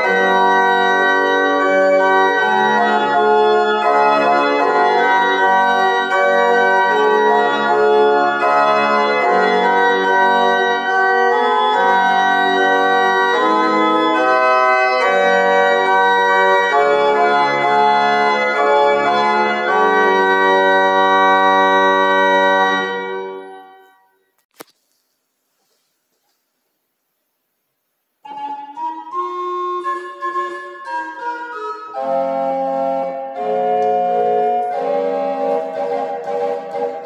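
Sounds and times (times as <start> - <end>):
organ playing a hymn: 0.0 - 24.0, 28.2 - 37.0.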